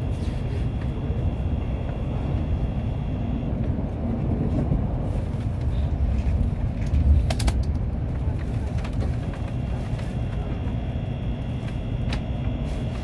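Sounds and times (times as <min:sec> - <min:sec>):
train rumbling at speed: 0:00.0 - 0:13.0.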